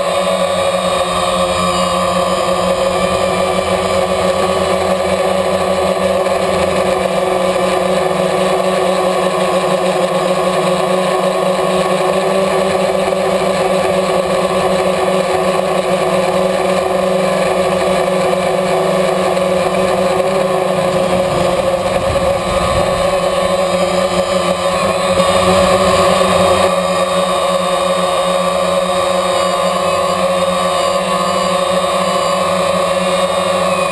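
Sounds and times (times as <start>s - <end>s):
drone propellers buzzing: 0.0s - 33.9s.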